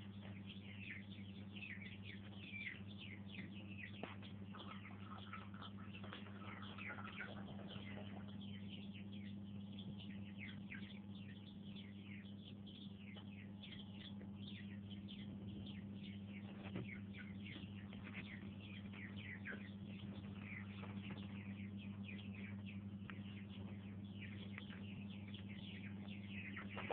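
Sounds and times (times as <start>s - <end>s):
chicks peeping: 0.0s - 26.9s
steady low hum: 0.0s - 26.9s.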